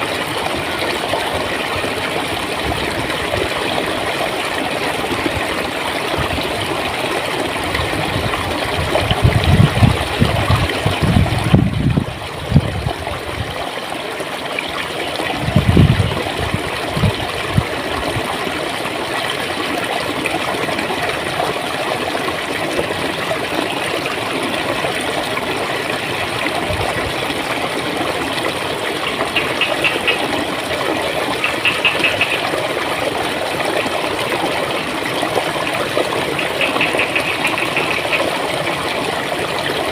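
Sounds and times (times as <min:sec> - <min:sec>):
low rumbling water surges: 0:00.0 - 0:39.9
stream water gurgling: 0:00.0 - 0:39.9.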